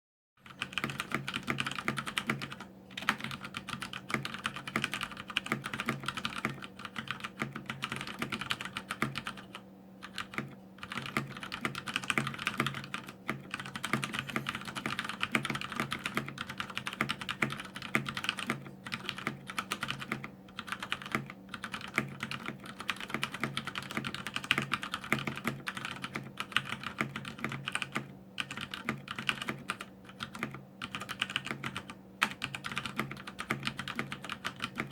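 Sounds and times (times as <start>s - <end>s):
fast typing on mechanical keyboard: 0.4s - 34.9s
steady low hum: 0.4s - 34.9s.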